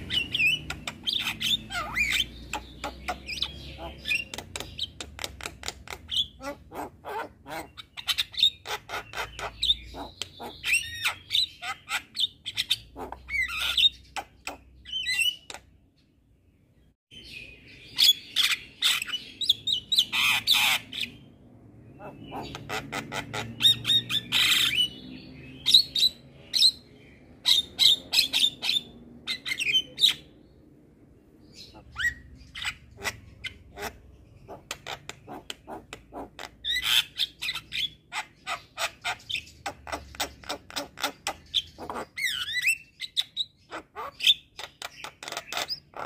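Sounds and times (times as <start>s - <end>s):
bird chattering and squawking: 0.0s - 15.9s, 17.4s - 30.6s, 31.4s - 46.0s.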